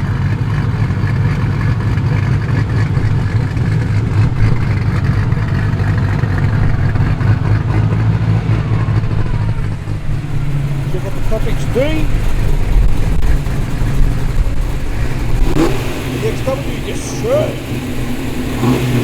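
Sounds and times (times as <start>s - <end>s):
car engine deep rumble: 0.0s - 19.0s.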